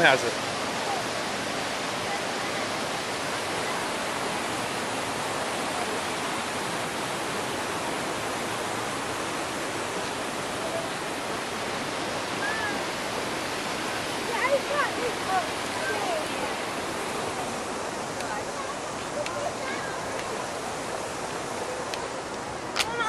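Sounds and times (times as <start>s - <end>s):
creek rushing over boulders: 0.0s - 23.0s.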